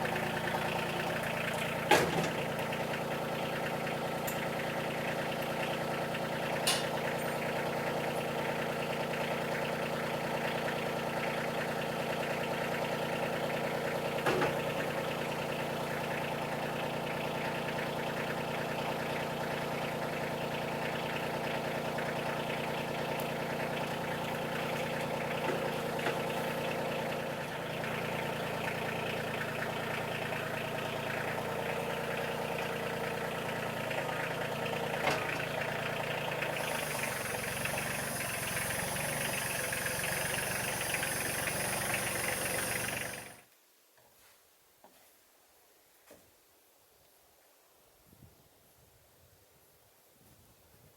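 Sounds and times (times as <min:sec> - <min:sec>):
petrol engine running: 0:00.0 - 0:43.4.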